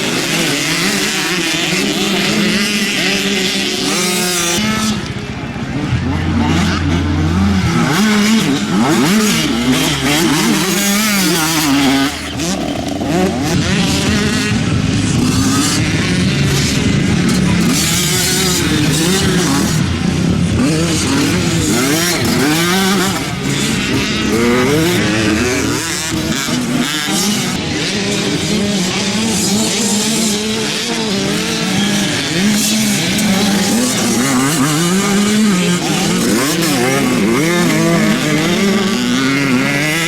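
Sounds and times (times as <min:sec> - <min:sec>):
motocross bikes revving: 0:00.0 - 0:40.0.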